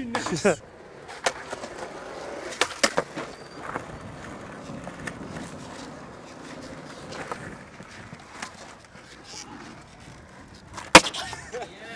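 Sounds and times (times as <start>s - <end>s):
skateboard clacks: 0.0s - 11.6s
skateboard wheels rolling on concrete: 0.0s - 11.9s.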